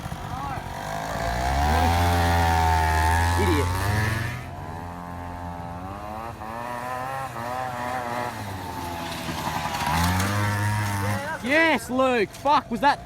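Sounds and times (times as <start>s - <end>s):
moped engine revving: 0.0s - 13.0s.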